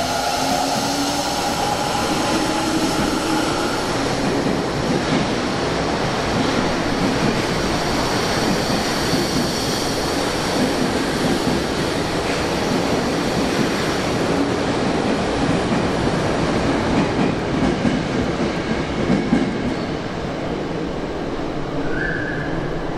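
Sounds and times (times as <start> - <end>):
subway train rolling: 0.0 - 22.9.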